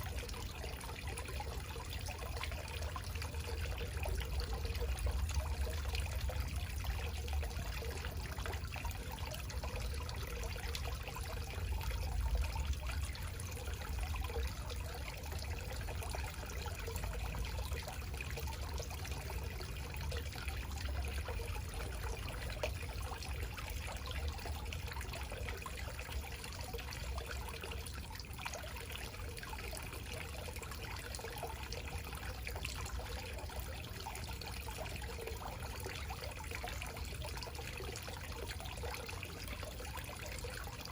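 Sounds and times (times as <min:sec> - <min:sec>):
constant low rumble: 0:00.0 - 0:40.9
water falling and trickling: 0:00.0 - 0:40.9.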